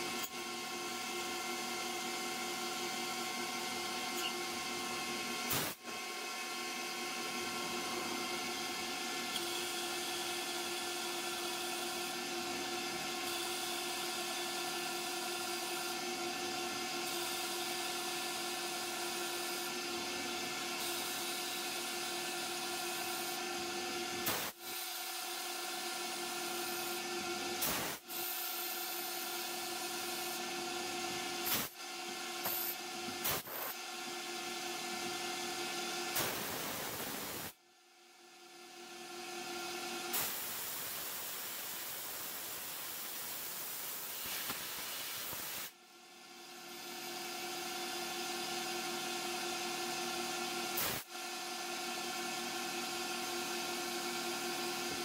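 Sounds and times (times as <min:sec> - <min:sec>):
lathe drive whine: 0:00.0 - 0:37.5, 0:38.2 - 0:40.2, 0:46.0 - 0:55.0.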